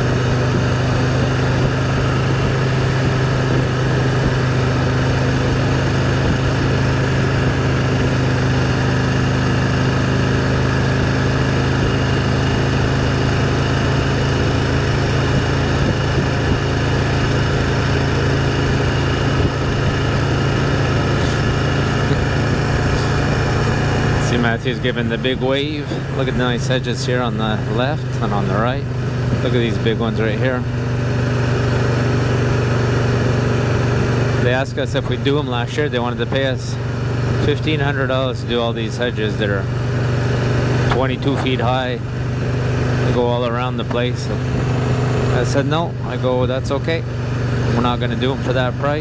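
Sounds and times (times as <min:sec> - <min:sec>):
motorcycle engine cruising: 0:00.0 - 0:49.0
road noise: 0:00.0 - 0:49.0.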